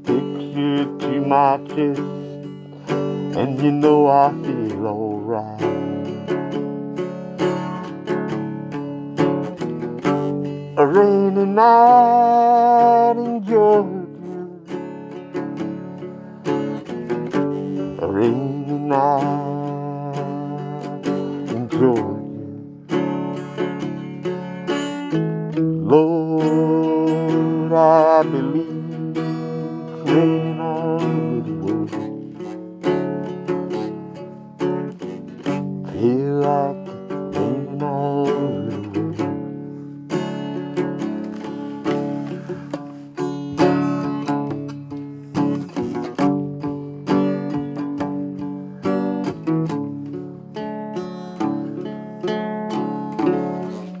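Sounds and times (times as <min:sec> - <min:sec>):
acoustic guitar picking and strumming: 0:00.0 - 0:54.0.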